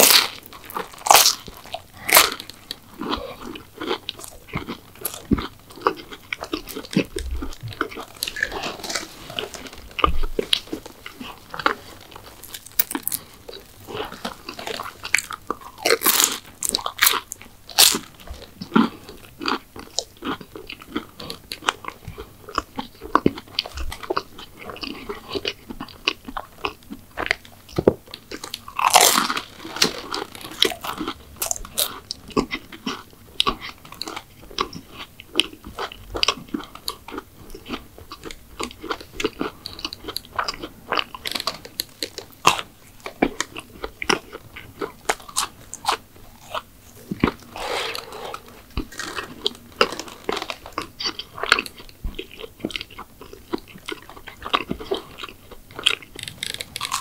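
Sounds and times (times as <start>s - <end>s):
crunching and chewing sweets: 0.0s - 57.0s.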